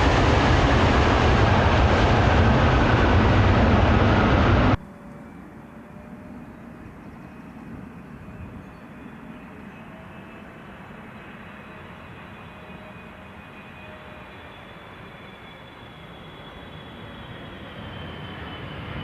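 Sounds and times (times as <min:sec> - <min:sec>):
distant jet engines rumbling: 0:00.0 - 0:19.0.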